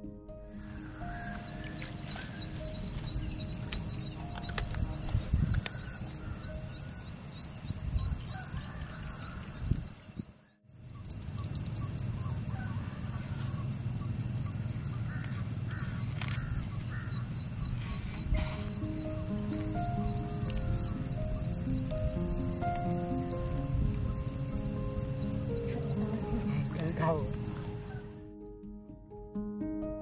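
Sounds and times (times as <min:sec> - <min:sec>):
faint piano music: 0:00.0 - 0:30.0
small birds chirping: 0:00.4 - 0:28.4.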